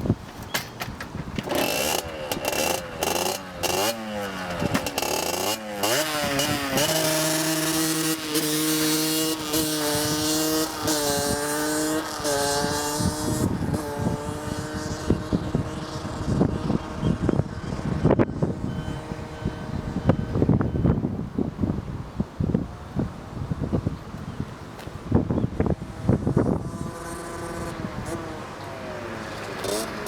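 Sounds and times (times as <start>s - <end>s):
two-stroke engine revving: 0.0s - 21.0s, 25.6s - 30.0s.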